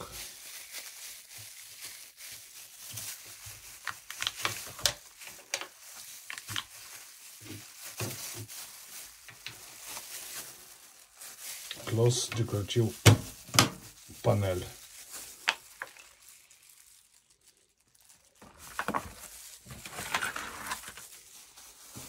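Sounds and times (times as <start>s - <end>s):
plastic gloves crinkling: 0.0s - 22.0s.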